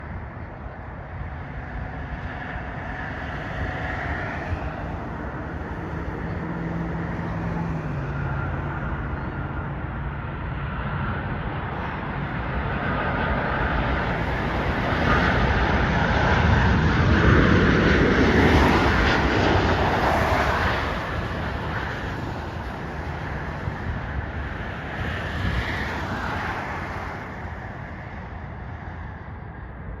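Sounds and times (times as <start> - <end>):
jet airliner passing: 0.0 - 30.0.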